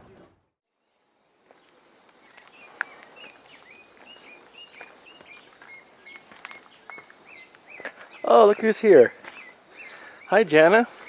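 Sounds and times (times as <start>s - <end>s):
faint outdoor background noise: 0.0s - 11.0s
bird chirping: 0.7s - 11.0s.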